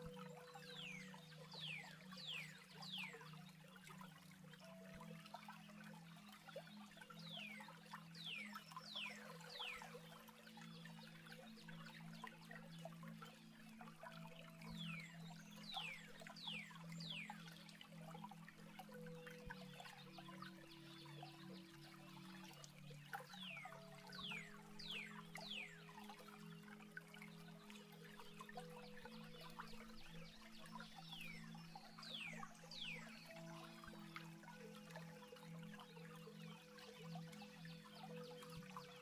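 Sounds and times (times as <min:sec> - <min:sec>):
trickling water stream: 0:00.0 - 0:39.0.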